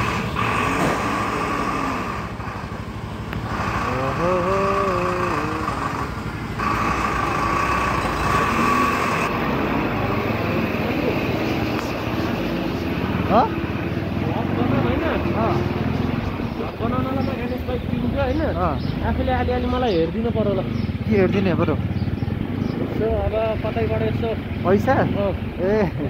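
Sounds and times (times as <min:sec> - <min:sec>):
street traffic: 0:00.0 - 0:26.0
vehicle engine running: 0:00.0 - 0:26.0.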